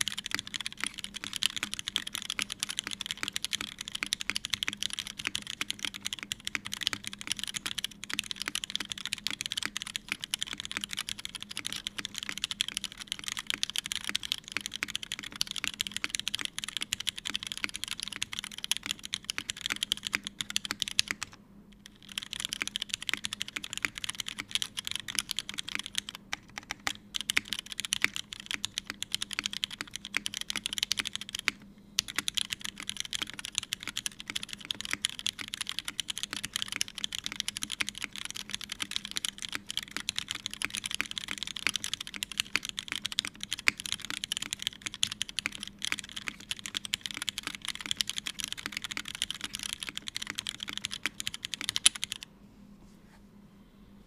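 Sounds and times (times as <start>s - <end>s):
mechanical keyboard typing: 0.0s - 52.2s.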